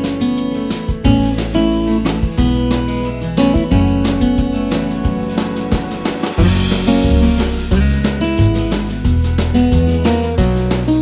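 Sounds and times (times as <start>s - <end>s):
strummed acoustic guitar music: 0.0s - 11.0s.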